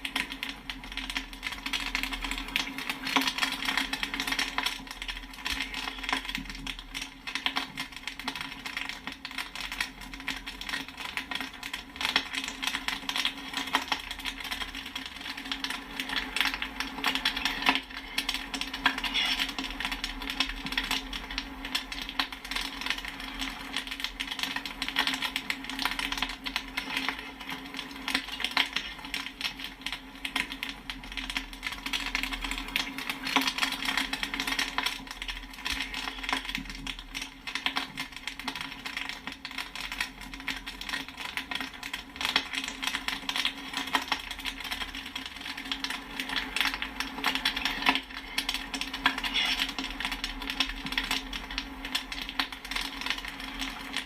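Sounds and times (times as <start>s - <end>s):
popcorn popping: 0.0s - 54.0s.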